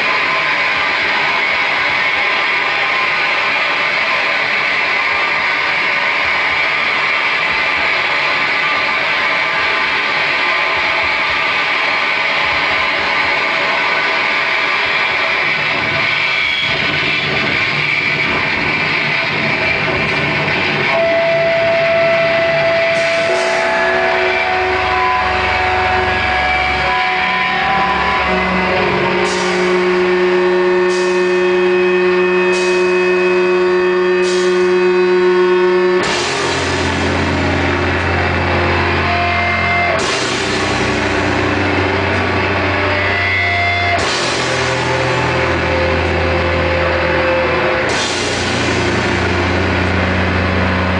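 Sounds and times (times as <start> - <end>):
cymbal crashes: 0.0 - 50.9
distorted guitar and bass: 0.0 - 50.9.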